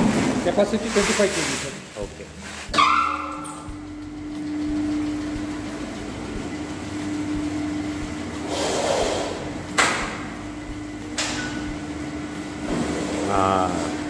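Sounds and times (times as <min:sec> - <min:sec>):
mill grinding hum: 0:00.0 - 0:14.0.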